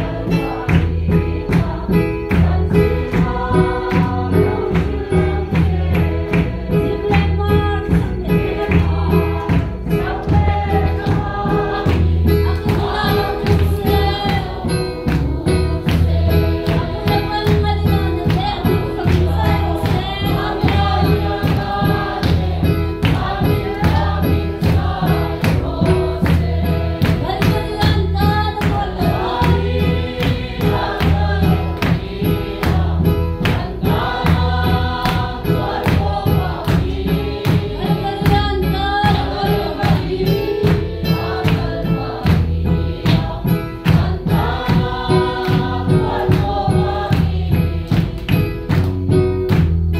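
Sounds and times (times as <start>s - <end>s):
congregation singing gospel song: 0.0s - 49.9s
hand clapping: 0.1s - 49.9s.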